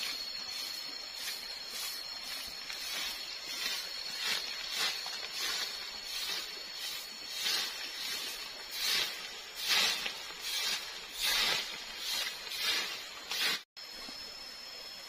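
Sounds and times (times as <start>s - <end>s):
broom sweeping dry leaves: 0.0s - 13.7s.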